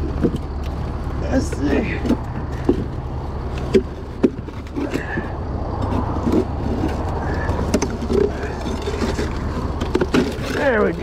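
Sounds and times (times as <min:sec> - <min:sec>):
vehicle idling rumble: 0:00.0 - 0:11.0.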